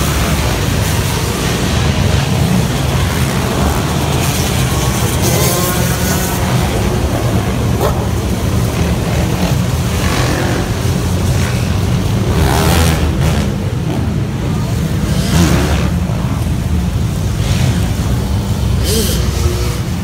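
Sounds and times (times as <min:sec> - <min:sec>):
motorcycle engines droning: 0:00.0 - 0:20.0
motorcycle engines revving: 0:00.0 - 0:20.0.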